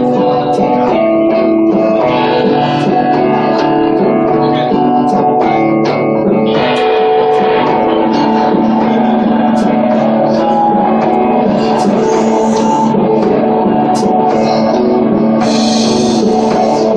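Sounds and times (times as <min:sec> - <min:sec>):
drums and cymbal hits: 0:00.0 - 0:16.9
electric guitar chords: 0:00.0 - 0:16.9.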